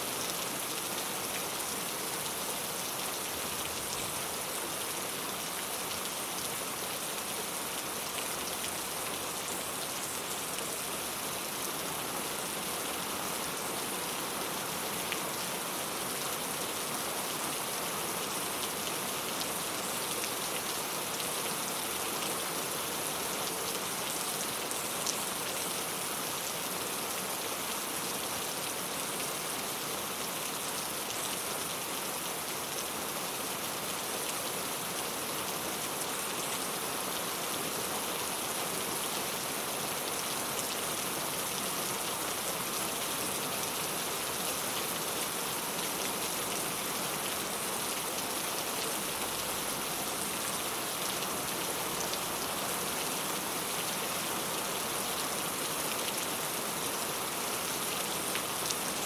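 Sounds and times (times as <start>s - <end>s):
rain on a tile roof: 0.0s - 59.0s.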